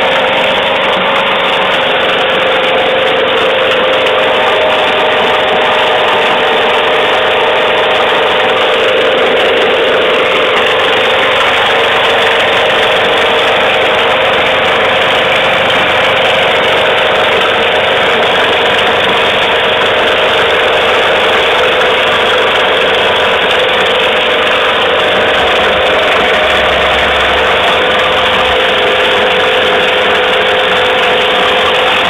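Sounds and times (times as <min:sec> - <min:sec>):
small motor humming: 0:00.0 - 0:32.0.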